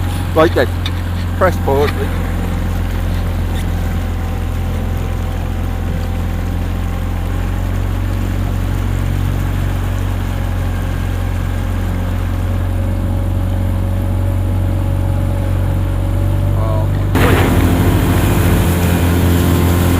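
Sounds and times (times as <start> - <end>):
outboard motor humming: 0.0 - 19.9.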